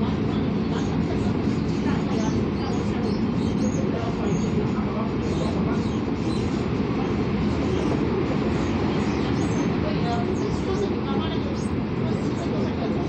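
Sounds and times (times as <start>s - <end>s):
train cabin low rumble: 0.0s - 13.0s.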